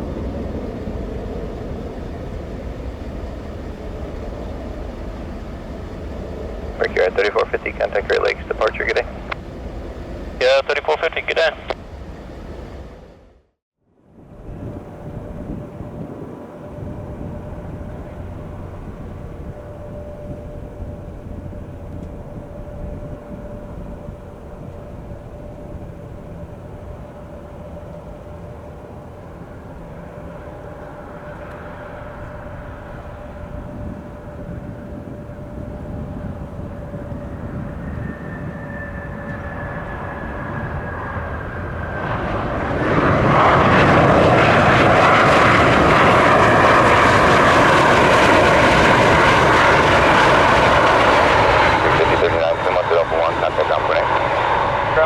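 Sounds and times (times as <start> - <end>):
jet engines whining and roaring: 0.0 - 55.0.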